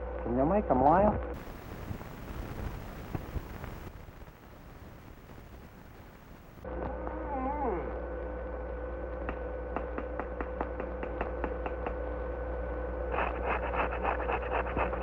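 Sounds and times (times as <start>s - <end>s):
optical sound track hum: 0.0s - 15.0s.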